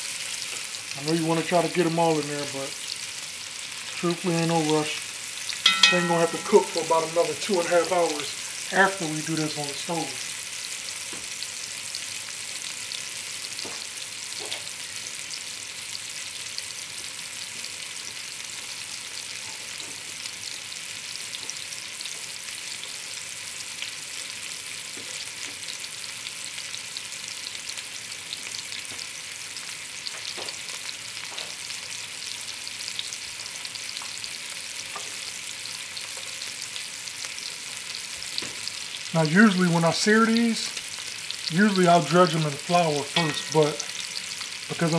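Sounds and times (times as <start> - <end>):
meat sizzling with crackling pops: 0.0 - 44.9.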